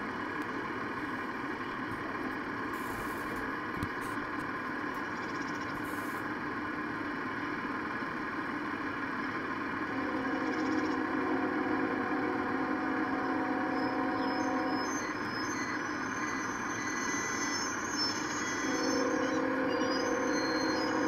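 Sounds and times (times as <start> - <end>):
bus driving up close: 0.0 - 21.0
street traffic engine hum: 0.0 - 21.0.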